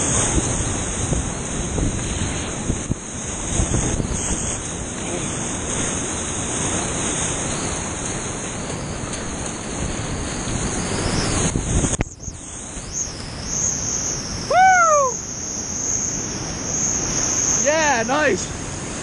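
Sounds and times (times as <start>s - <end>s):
whitewater rapids rushing: 0.0s - 11.9s, 12.5s - 19.0s.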